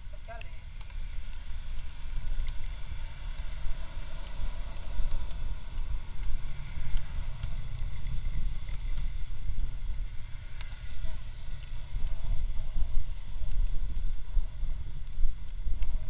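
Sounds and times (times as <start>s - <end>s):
tyres on wet asphalt: 0.0s - 16.0s
wind buffeting microphone: 0.0s - 16.0s.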